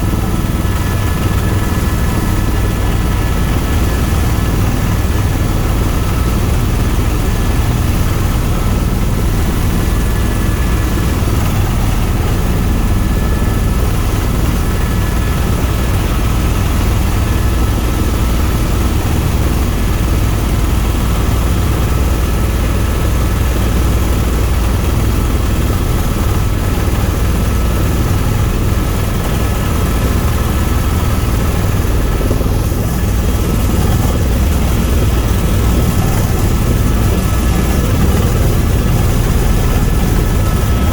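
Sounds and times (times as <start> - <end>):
helicopter in flight: 0.0 - 40.9.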